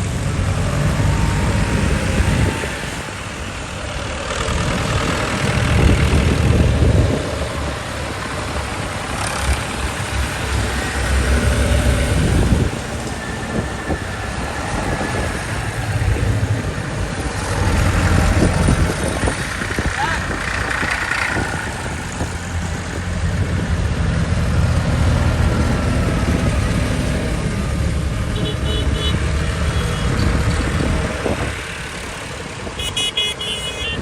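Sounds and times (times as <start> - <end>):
tractor engines passing by: 0.0 - 34.0.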